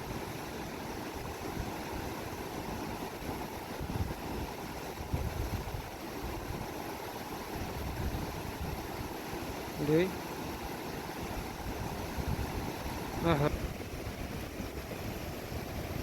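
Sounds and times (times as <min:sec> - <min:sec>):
river in flood rushing: 0:00.0 - 0:16.0.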